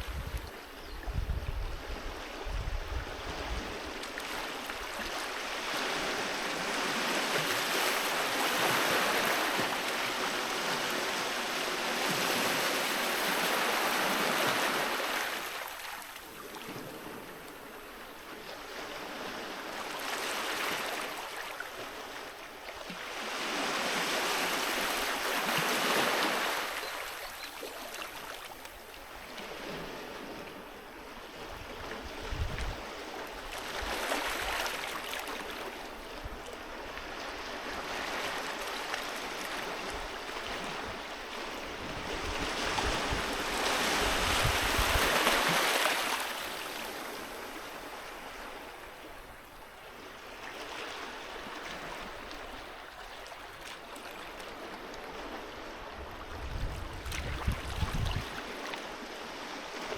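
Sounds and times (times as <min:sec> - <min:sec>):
sea waves washing onto beach: 0:02.1 - 0:31.2, 0:32.0 - 0:59.9.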